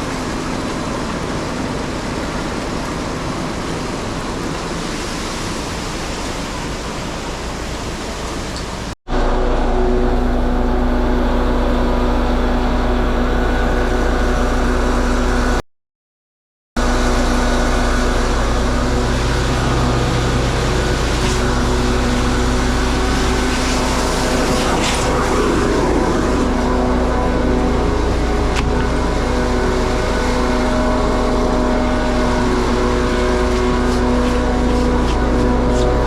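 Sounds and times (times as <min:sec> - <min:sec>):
vacuum pump and engine drone: 0:00.0 - 0:15.6, 0:16.8 - 0:36.0.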